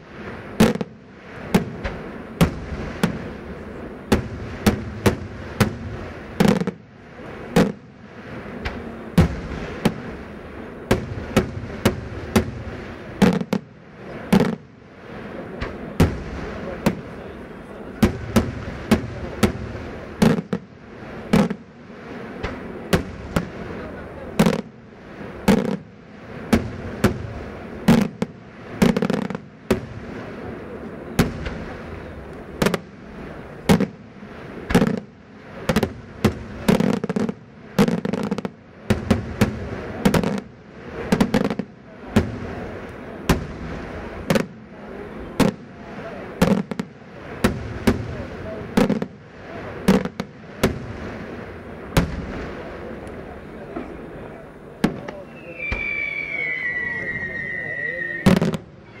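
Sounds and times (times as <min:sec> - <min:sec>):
continuous rumble: 0:00.0 - 0:55.3
fireworks bursting with sharp bangs: 0:00.0 - 0:59.0.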